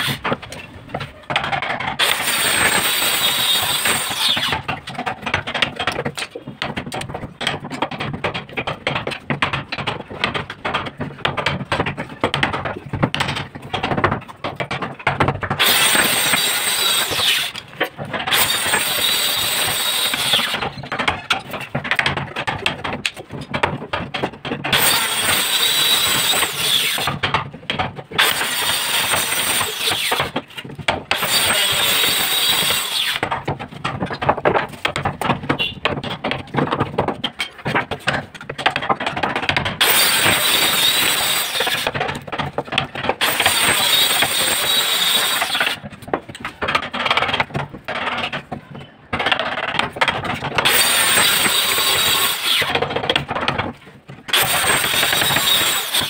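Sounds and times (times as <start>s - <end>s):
chisel crackling and scraping wood: 0.0s - 56.0s.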